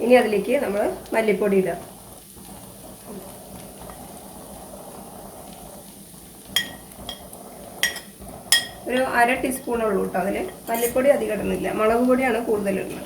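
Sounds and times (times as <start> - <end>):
okra sizzling in a pan: 0.0 - 13.0.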